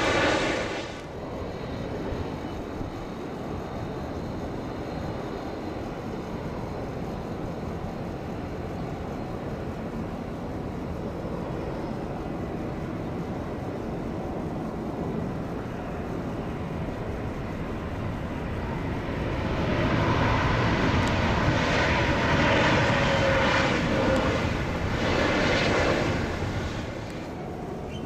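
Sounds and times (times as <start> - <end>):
faint jet whine: 0.0 - 28.0
jet airliner engine noise: 0.0 - 28.0.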